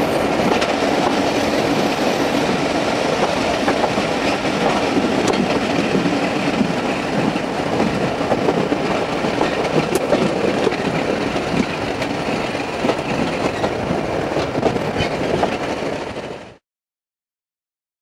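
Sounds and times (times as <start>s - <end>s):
train wheels clattering on rails: 0.0s - 16.6s.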